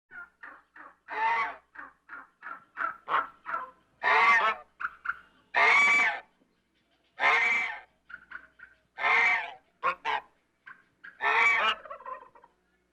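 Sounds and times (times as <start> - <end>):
geese honking: 0.1 - 6.3, 7.2 - 12.5.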